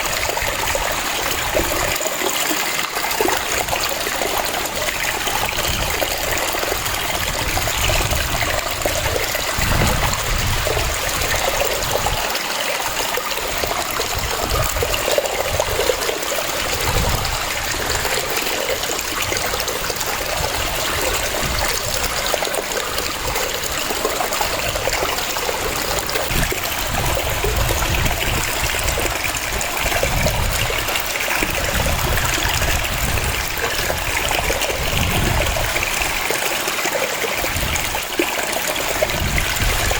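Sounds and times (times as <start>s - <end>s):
waterfall splashing and rushing: 0.0s - 39.9s.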